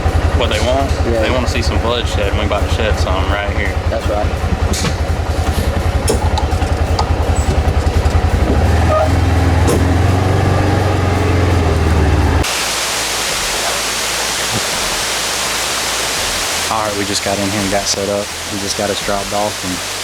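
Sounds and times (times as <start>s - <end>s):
rain hissing: 0.0s - 10.0s, 10.9s - 20.0s
vehicle engine rumbling: 0.0s - 20.0s.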